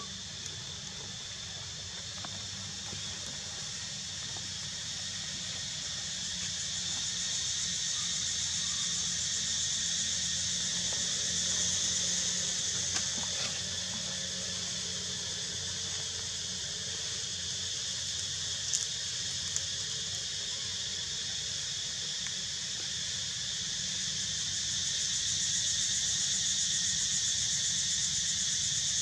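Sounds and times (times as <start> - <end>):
high-pitched hiss: 0.0 - 29.0.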